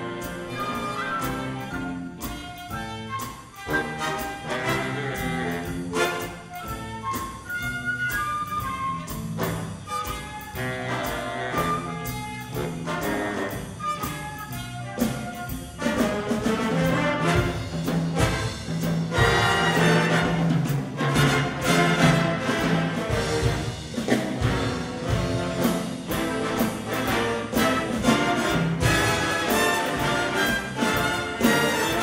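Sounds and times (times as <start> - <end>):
big band jazz: 0.0 - 32.0
drum kit steady beat: 0.0 - 32.0.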